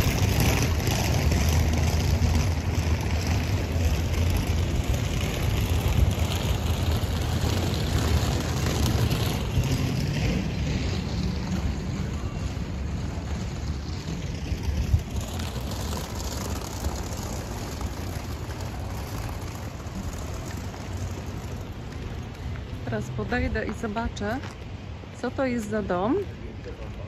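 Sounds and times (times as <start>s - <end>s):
wind buffeting microphone: 0.0s - 26.6s.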